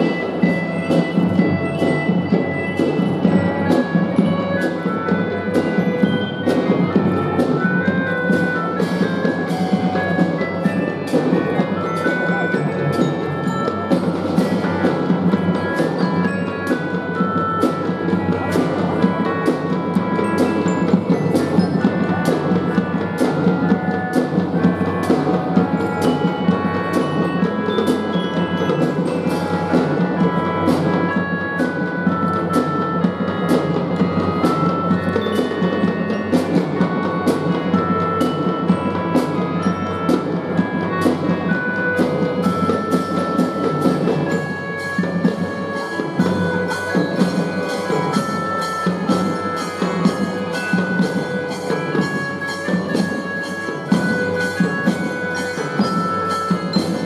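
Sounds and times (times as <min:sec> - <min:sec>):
drum and fife band playing: 0:00.0 - 0:57.0
mallet percussion melody: 0:00.0 - 0:57.0
regular drum beats: 0:00.0 - 0:57.0.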